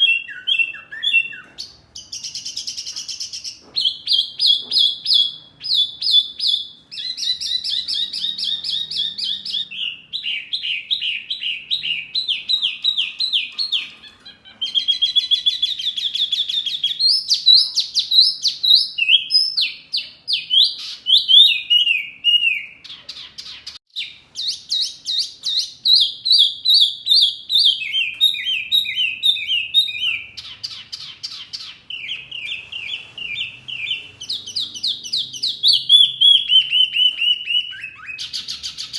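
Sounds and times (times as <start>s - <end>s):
songbird trilling: 0.0s - 38.9s.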